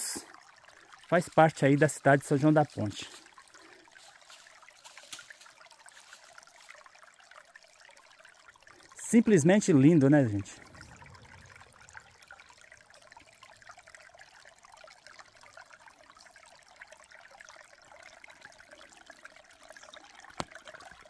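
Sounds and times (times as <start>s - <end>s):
water trickling over stones: 0.0s - 21.0s.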